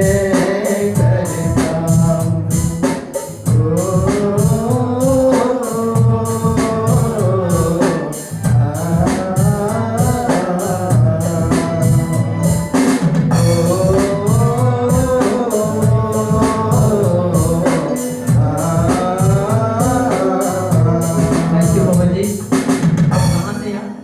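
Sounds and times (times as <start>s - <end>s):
steady drum beat: 0.0s - 24.0s.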